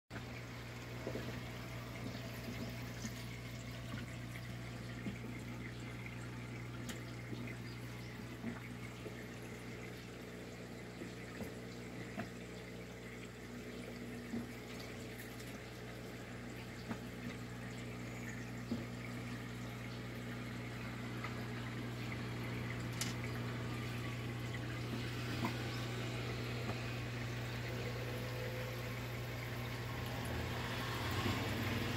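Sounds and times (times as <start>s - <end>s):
filter pump humming: 0.1s - 31.9s
water trickling through filter: 0.1s - 31.9s.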